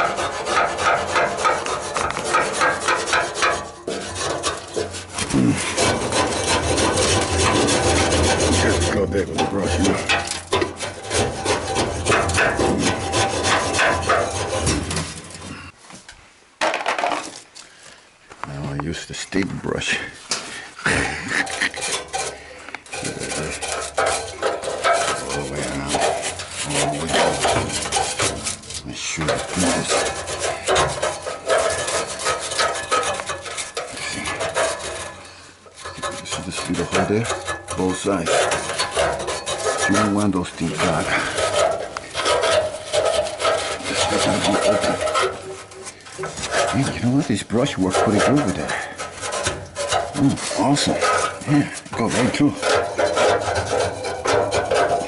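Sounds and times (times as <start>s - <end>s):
wire brush scraping metal: 0.0s - 15.8s, 19.0s - 55.0s.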